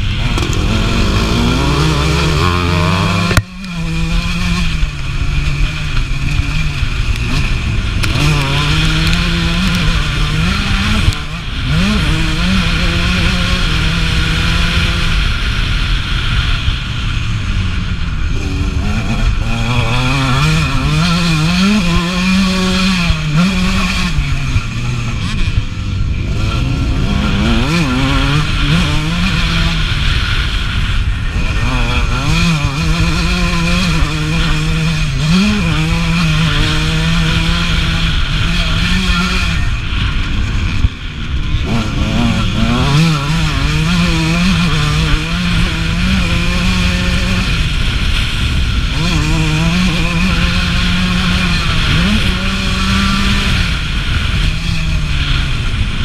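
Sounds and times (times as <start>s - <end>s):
steady rushing noise: 0.0s - 56.0s
two-stroke motorcycle engine revving: 0.0s - 56.0s.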